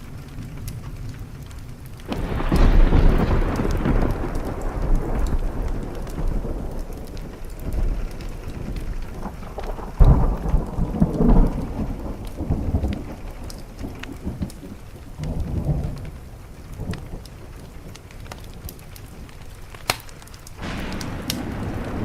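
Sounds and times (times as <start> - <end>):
steady rain: 0.0 - 22.0
wood fire crackling: 0.0 - 22.0
rolling thunder: 0.2 - 19.4, 20.6 - 22.0.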